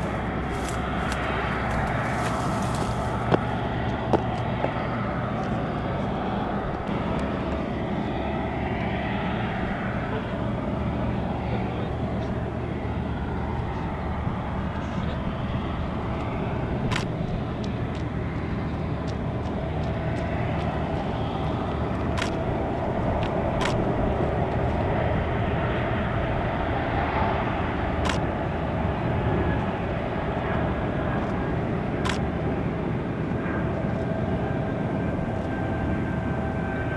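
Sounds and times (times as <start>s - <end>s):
aircraft droning: 0.0s - 36.9s.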